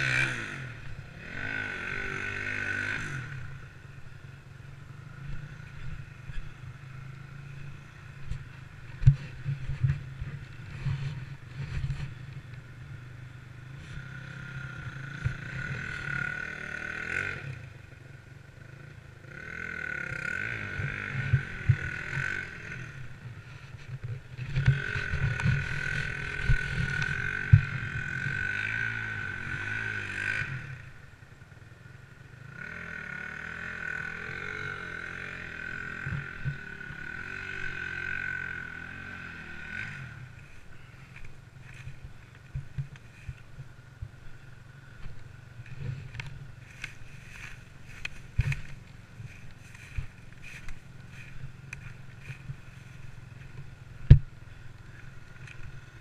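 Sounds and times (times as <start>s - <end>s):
distant motorcycle engine revving: 0.0s - 56.0s.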